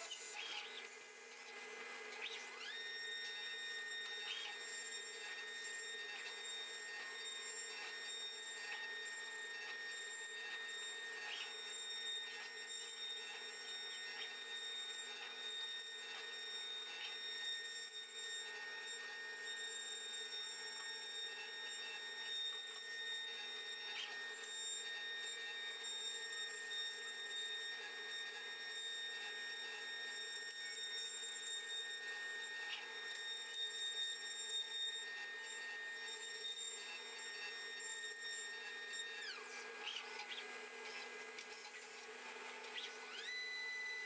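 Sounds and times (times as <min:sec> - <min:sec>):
router spindle high-pitched whine: 0:00.0 - 0:44.0.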